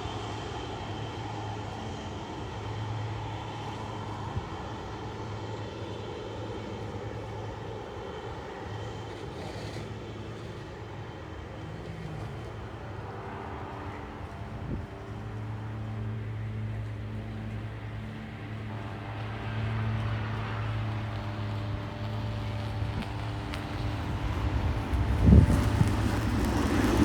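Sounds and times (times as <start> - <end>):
aircraft engine rush: 0.0 - 27.0.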